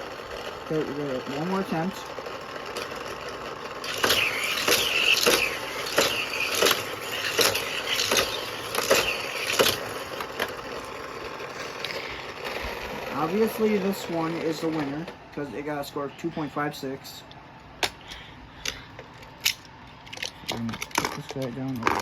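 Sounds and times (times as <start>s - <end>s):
toy cars clacking on plastic track: 0.0s - 15.2s, 17.8s - 22.0s.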